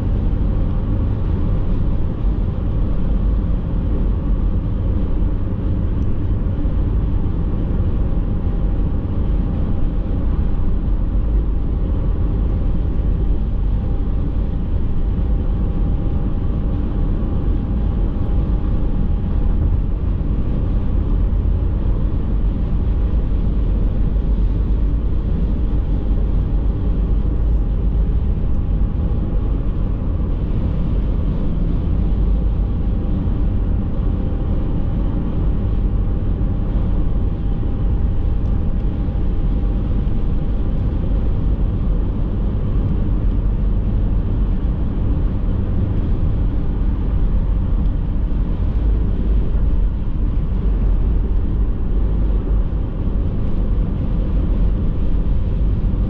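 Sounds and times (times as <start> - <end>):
car road and engine rumble: 0.0 - 56.0
faint steady whine: 0.0 - 56.0.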